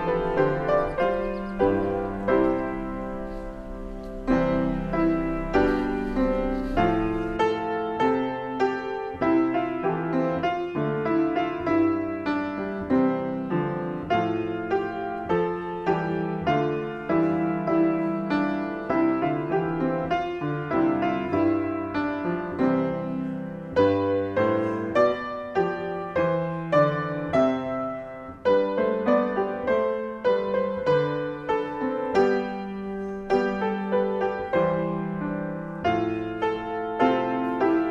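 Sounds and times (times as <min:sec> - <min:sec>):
solo piano playing: 0:00.0 - 0:37.9.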